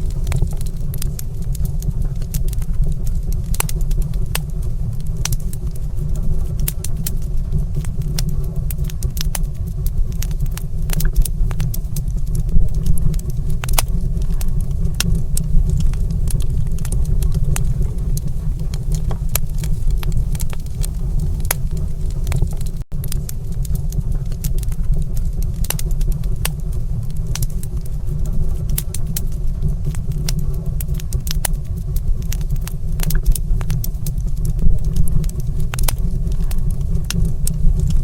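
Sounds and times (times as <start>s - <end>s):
low rumble: 0.0s - 38.0s
wood fire crackling: 0.0s - 38.0s.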